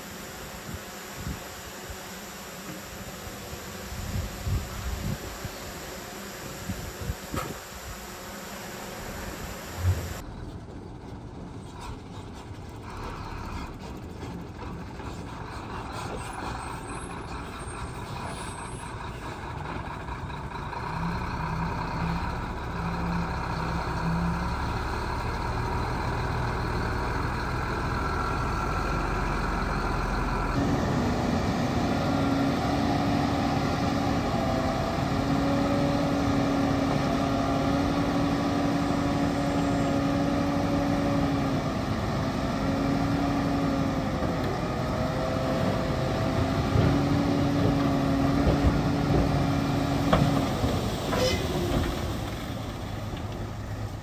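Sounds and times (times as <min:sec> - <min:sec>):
heavy machine diesel engines: 0:00.0 - 0:54.0.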